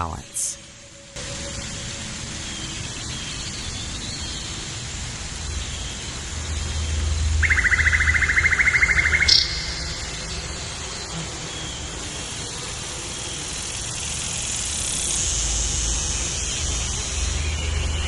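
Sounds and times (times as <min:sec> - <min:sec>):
outdoor ambience hiss: 0:00.0 - 0:18.0.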